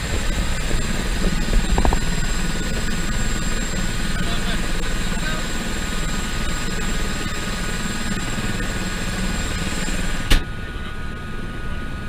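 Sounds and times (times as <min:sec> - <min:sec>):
thin high whine: 0:00.0 - 0:11.3
helicopter turbine and rotor drone: 0:00.0 - 0:12.0.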